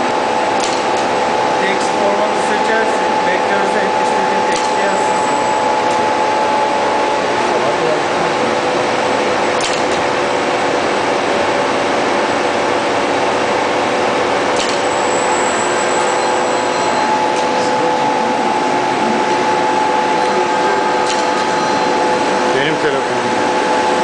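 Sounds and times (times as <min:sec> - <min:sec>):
machine hum tones: 0:00.0 - 0:24.0.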